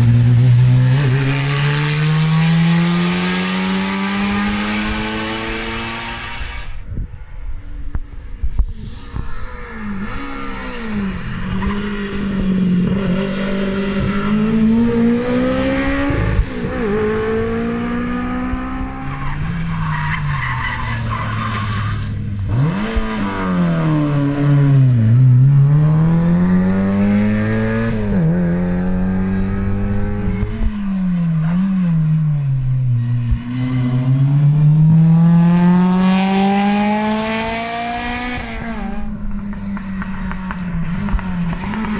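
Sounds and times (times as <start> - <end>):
rally car engines accelerating: 0.0 - 6.8, 8.4 - 41.9.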